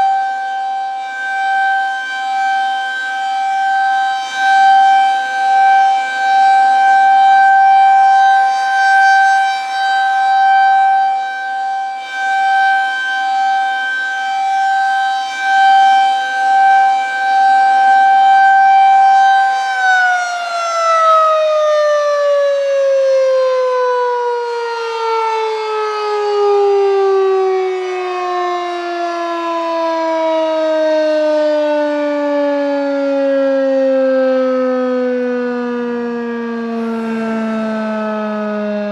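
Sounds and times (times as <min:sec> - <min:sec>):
rotating siren steady tone: 0:00.0 - 0:38.9.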